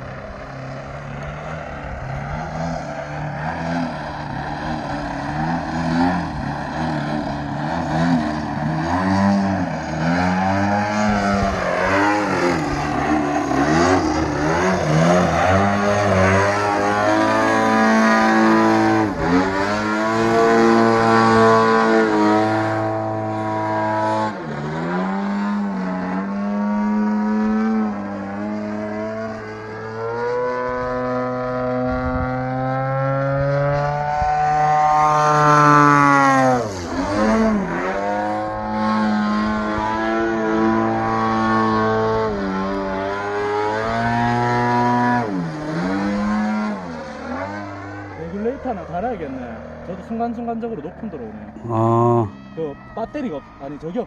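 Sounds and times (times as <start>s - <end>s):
model airplane motor and propeller: 0.0s - 51.6s.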